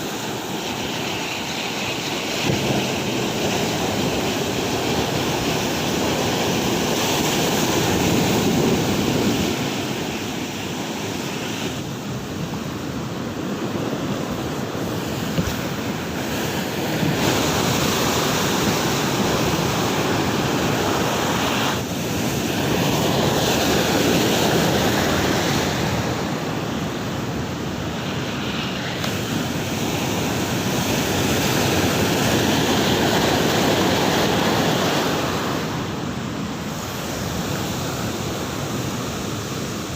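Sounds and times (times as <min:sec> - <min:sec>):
heavy surf breaking: 0:00.0 - 0:39.9
wind buffeting microphone: 0:00.0 - 0:39.9.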